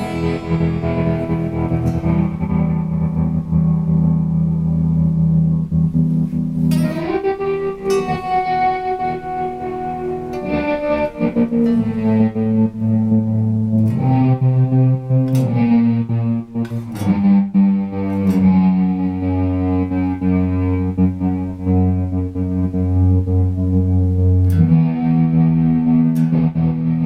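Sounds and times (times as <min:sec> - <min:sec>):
electric guitar with wavering tremolo: 0:00.0 - 0:27.0.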